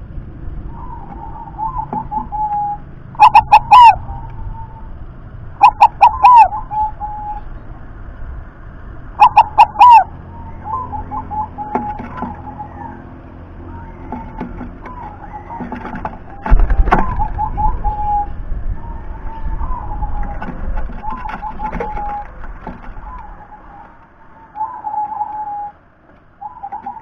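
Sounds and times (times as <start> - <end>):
dove cooing: 0.6 - 5.0, 5.6 - 7.6, 9.1 - 27.0.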